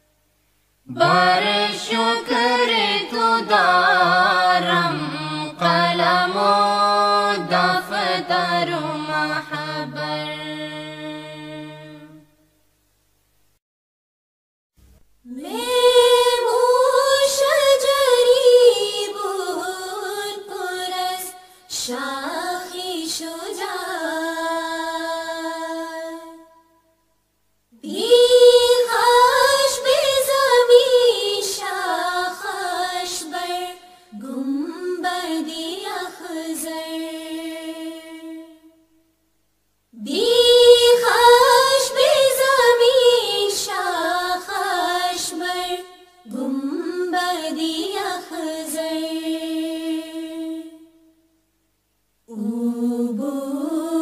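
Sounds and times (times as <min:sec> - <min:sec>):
person chanting unaccompanied: 0:00.9 - 0:12.3, 0:15.3 - 0:26.6, 0:27.8 - 0:38.7, 0:40.0 - 0:50.9, 0:52.3 - 0:54.0.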